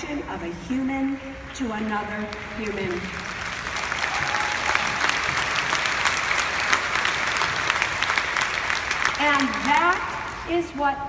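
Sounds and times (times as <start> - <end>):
audience applauding: 1.0 - 10.5.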